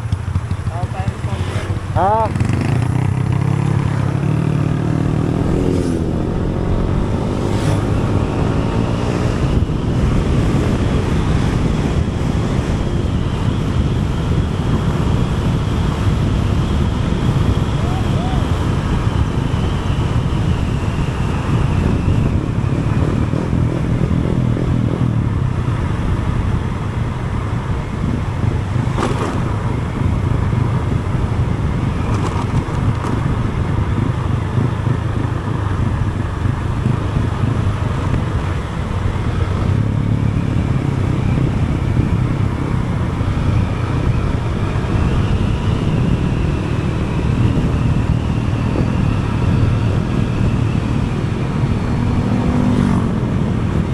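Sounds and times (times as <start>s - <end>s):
vehicle engine drone: 0.0s - 53.9s
wind and road noise: 0.0s - 53.9s.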